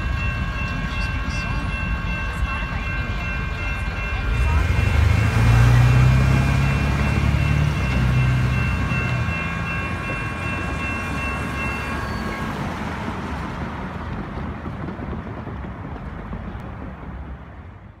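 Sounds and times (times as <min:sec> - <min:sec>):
railroad crossing bells ringing: 0:00.0 - 0:15.1
road traffic passing: 0:00.0 - 0:18.0.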